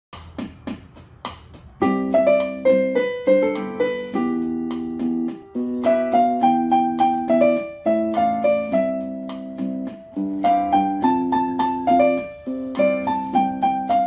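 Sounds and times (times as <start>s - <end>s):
keyboard melody: 1.7s - 14.0s
electronic keyboard playing chords: 1.8s - 14.0s.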